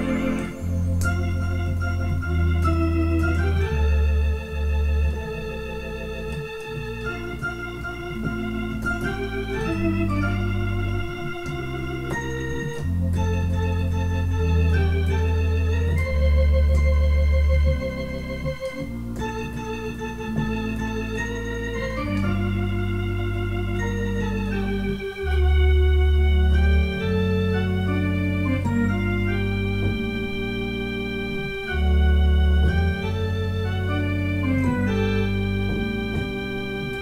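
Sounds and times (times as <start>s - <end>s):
electronic organ melody: 0.0s - 37.0s.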